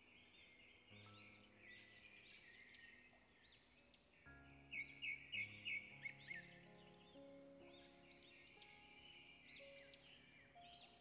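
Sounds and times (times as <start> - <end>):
bird chirps: 0.0 - 11.0
soft background music: 0.0 - 11.0.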